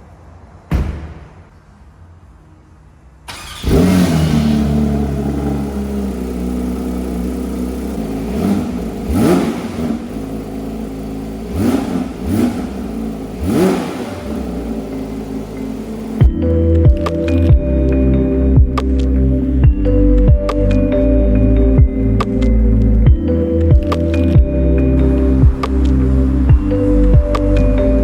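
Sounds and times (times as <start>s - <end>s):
car engine starting and idling: 3.2s - 28.0s
engine throttle blips: 3.3s - 28.0s.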